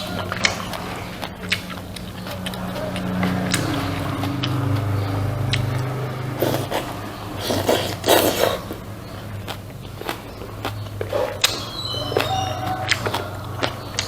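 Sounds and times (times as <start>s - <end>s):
person chewing food: 0.0s - 14.0s
steady low hum: 0.0s - 14.0s.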